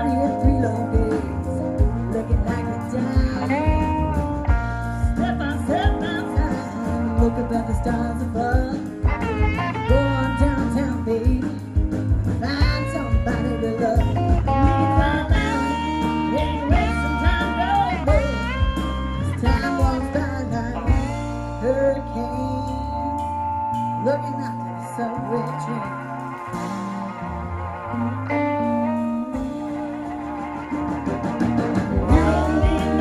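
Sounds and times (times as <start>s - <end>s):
person singing: 0.0s - 27.1s, 27.9s - 33.0s
live blues-rock band: 0.0s - 33.0s.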